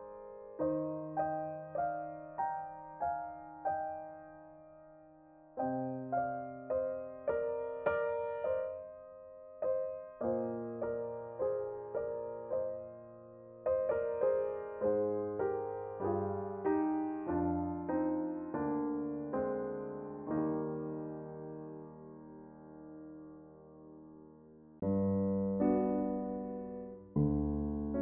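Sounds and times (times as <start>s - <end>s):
slow gentle piano melody: 0.0s - 28.0s.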